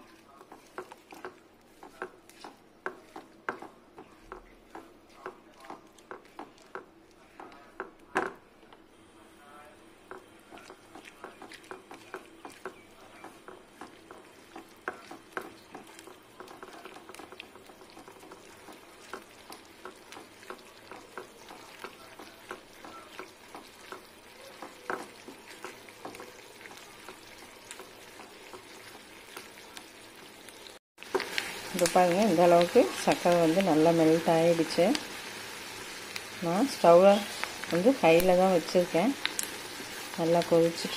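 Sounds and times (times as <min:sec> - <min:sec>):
spatula stirring: 0:00.0 - 0:40.9
syrup boiling and popping: 0:00.0 - 0:40.9.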